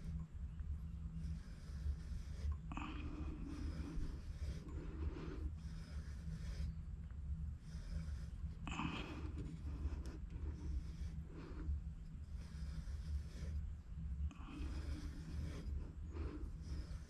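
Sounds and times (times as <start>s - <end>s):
steady low hum: 0.0s - 17.0s
tube cutter scraping copper pipe: 1.3s - 6.8s, 7.6s - 13.6s, 14.3s - 17.0s.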